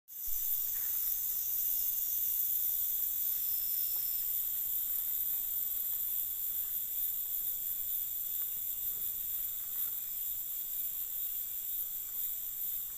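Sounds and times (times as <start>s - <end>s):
insects droning: 0.1s - 12.9s.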